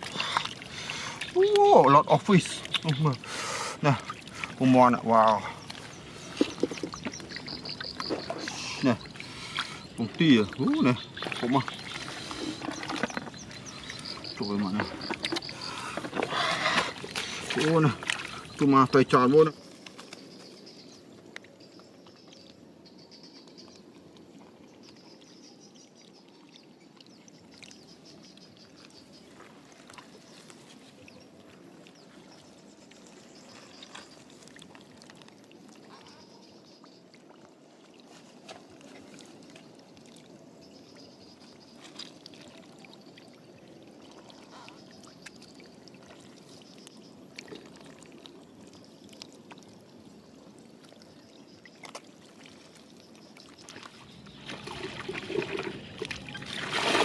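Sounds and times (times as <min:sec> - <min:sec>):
small splashes: 0:00.0 - 0:22.5, 0:23.8 - 0:57.0
muddy water sloshing: 0:00.0 - 0:22.6, 0:23.7 - 0:57.0.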